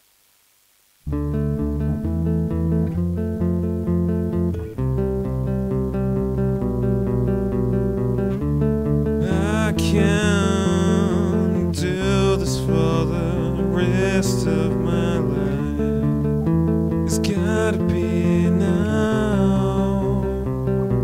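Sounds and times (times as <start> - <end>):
rock guitar and bass: 1.1 - 21.0.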